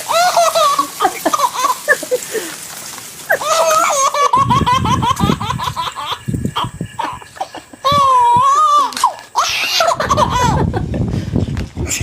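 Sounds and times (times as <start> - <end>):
high-pitched laughing and squealing: 0.0 - 2.6, 3.2 - 11.0.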